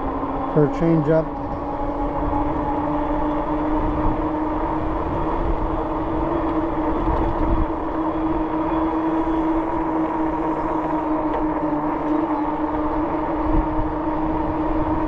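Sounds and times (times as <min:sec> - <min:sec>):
bike tires humming on pavement: 0:00.0 - 0:15.0
wind rumble on microphone: 0:01.2 - 0:15.0.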